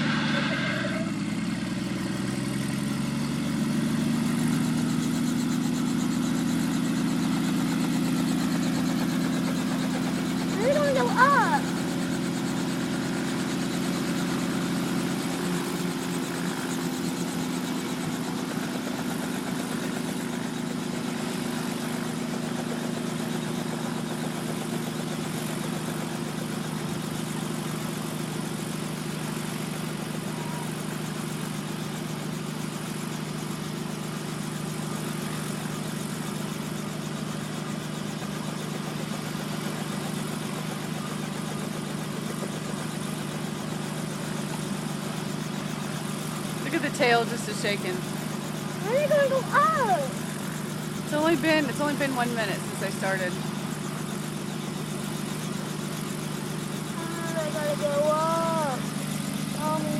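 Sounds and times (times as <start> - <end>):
helicopter engine drone: 0.0 - 59.9.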